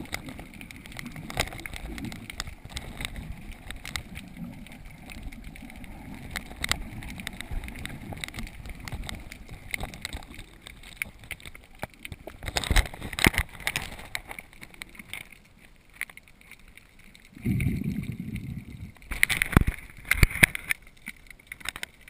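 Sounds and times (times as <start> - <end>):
muffled underwater water wash: 0.0 - 22.0
sharp underwater clicks and crackles: 0.0 - 22.0.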